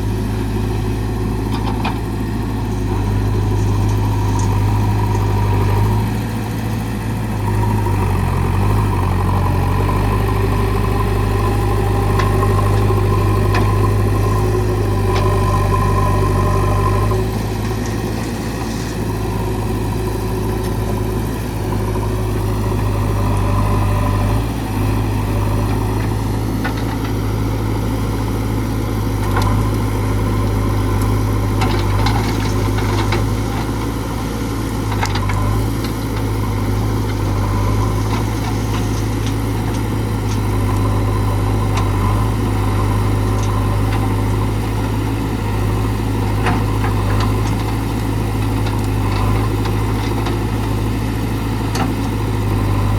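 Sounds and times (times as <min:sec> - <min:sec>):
diesel engine droning: 0:00.0 - 0:52.9.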